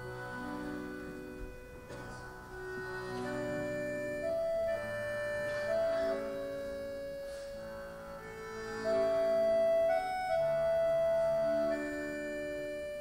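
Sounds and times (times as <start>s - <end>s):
accordions playing chords: 0.0s - 13.0s.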